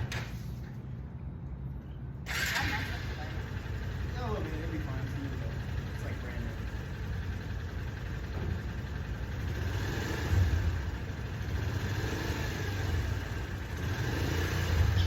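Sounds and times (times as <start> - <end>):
motorcycle engine idling: 2.3 - 15.0.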